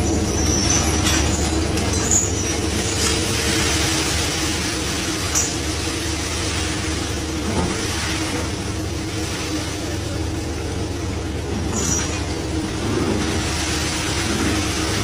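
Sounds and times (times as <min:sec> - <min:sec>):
boat engine and deck machinery drone: 0:00.0 - 0:15.0.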